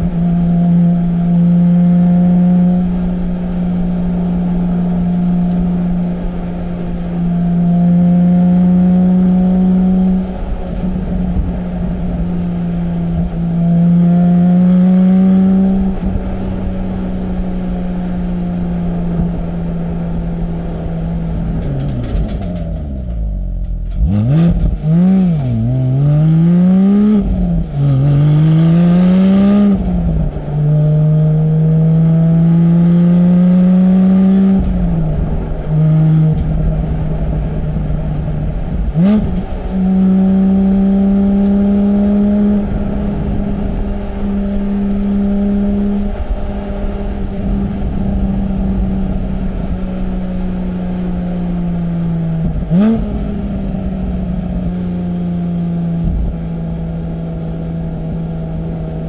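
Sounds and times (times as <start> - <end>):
sports car engine revving: 0.0 - 59.0.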